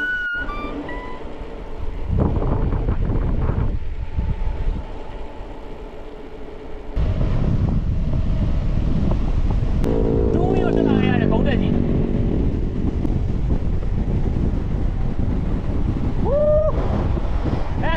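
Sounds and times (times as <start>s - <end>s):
road noise: 0.0s - 17.9s
wind rumbling on microphone: 0.0s - 17.9s.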